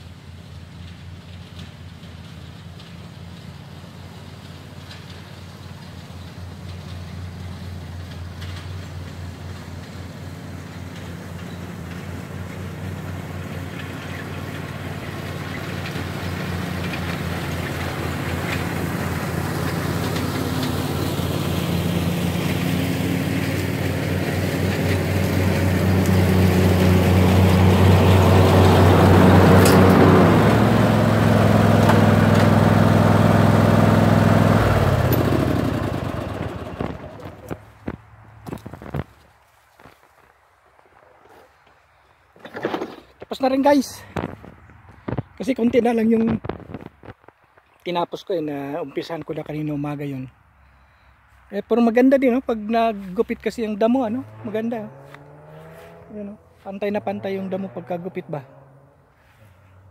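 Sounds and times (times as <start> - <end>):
riding lawn mower engine: 0.0 - 40.4, 41.3 - 59.9.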